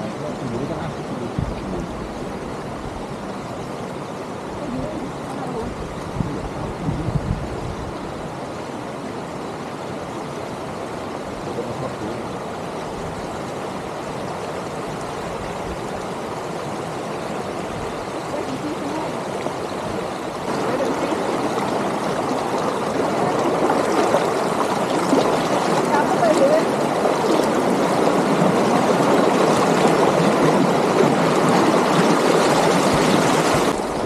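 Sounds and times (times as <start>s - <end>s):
river water flowing over stones: 0.0s - 34.0s.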